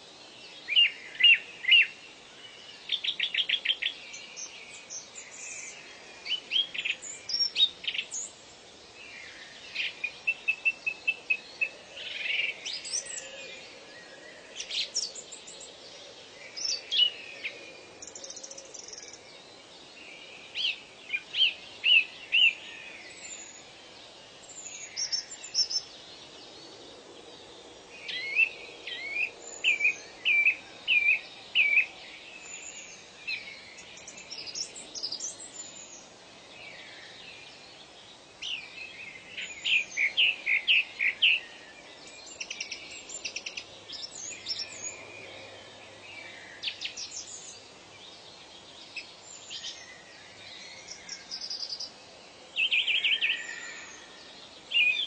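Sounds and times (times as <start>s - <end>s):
birds singing and chirping: 0.0s - 55.0s
faint hiss of ambience: 0.0s - 55.0s.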